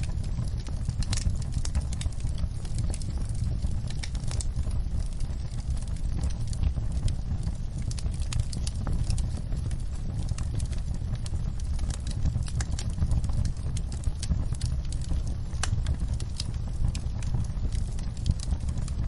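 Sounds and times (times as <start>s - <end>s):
rain on a window: 0.0s - 19.0s
wood fire crackling and popping: 0.0s - 19.0s.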